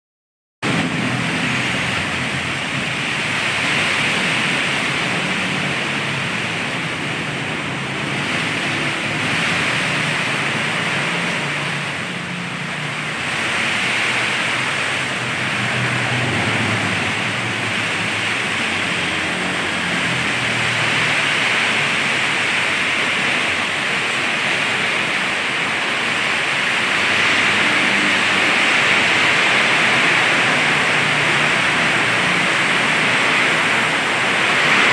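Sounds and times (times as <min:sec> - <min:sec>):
heavy rain pouring: 0:00.6 - 0:34.9.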